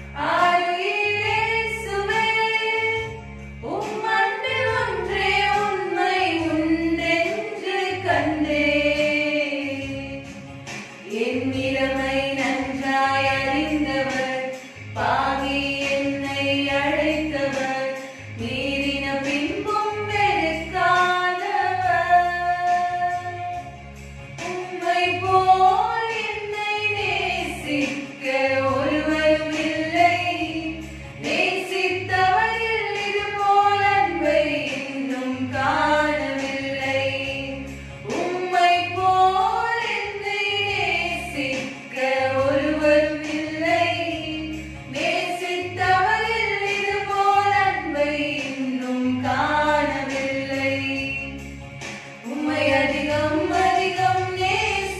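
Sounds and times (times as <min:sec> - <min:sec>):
women singing together: 0:00.2 - 0:23.6, 0:24.4 - 0:51.4, 0:52.2 - 0:54.9.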